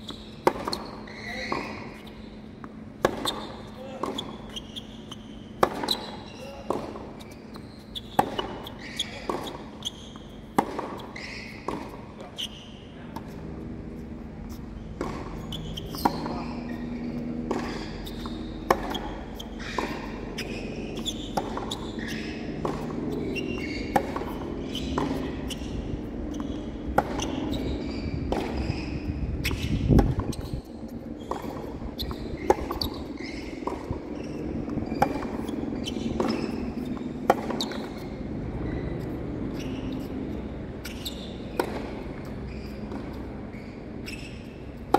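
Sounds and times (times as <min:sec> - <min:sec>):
racquets striking tennis ball: 0:00.0 - 0:12.4, 0:13.1 - 0:44.9
tennis ball bouncing: 0:00.0 - 0:12.5, 0:13.1 - 0:44.9
sneaker squeaks on court: 0:00.0 - 0:13.4, 0:14.5 - 0:44.9.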